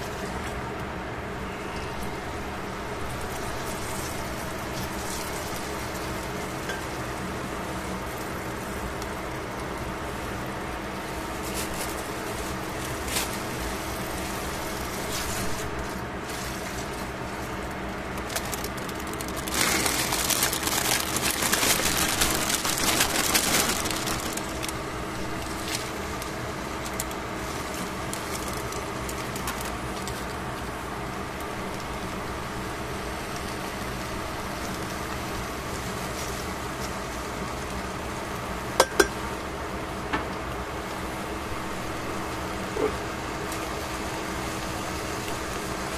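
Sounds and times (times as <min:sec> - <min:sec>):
steady background hum: 0:00.0 - 0:45.9
vegetables crackling in hot pot: 0:00.0 - 0:45.9.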